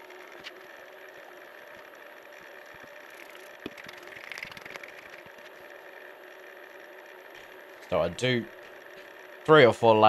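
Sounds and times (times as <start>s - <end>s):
wood lathe humming: 0.0s - 10.0s.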